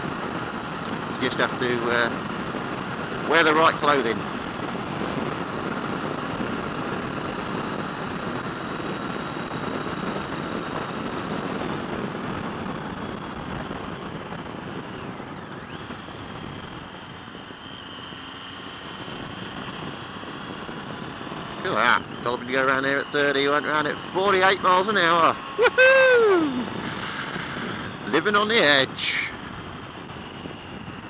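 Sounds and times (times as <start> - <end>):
wind rush over microphone: 0.0 - 31.0.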